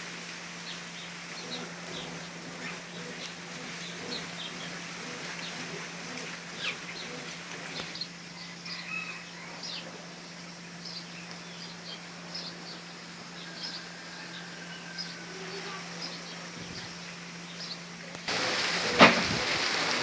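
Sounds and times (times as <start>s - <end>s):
birds chirping: 0.5s - 20.0s.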